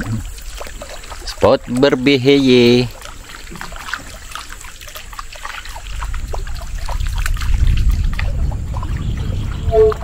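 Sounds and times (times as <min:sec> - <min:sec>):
water trickling and dripping: 0:00.0 - 0:10.0.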